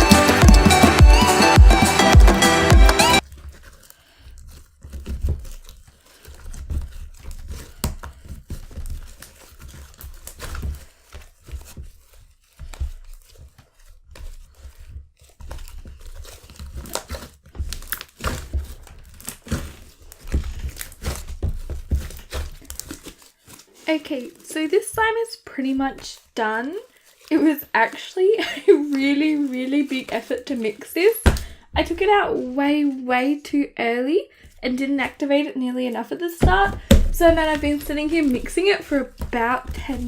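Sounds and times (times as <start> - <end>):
sticky slime crackling: 3.2 - 32.9, 35.9 - 40.0.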